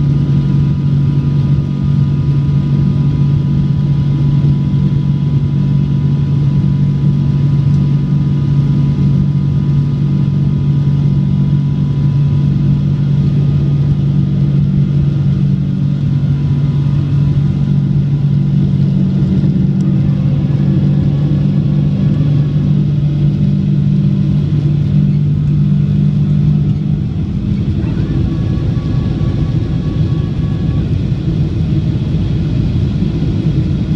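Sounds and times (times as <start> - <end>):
deep hum: 0.0 - 33.9
jet engine drone in cabin: 0.0 - 33.9.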